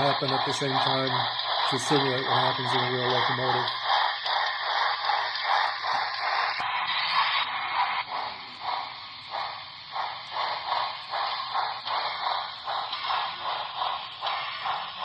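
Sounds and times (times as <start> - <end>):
model train steam chuffs: 0.0 - 15.0
steady hiss: 0.0 - 15.0.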